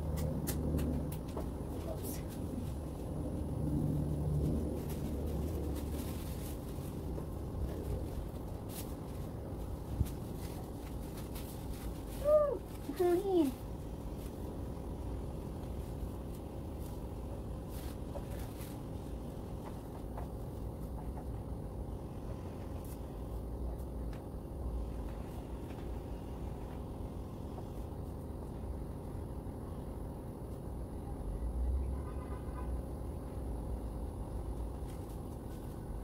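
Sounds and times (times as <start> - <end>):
low outdoor rumble: 0.0 - 36.0.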